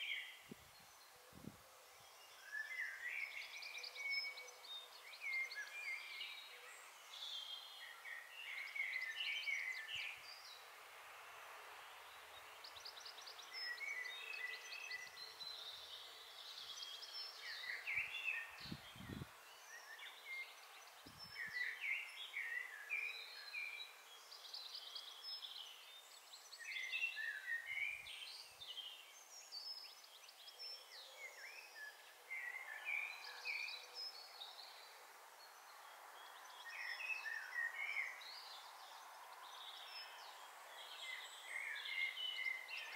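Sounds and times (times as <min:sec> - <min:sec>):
background hiss: 0:00.0 - 0:42.9
songbirds chirping: 0:00.0 - 0:42.9.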